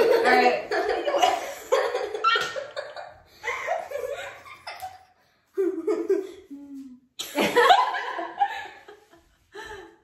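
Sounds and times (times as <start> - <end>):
woman and children laughing: 0.0 - 9.2.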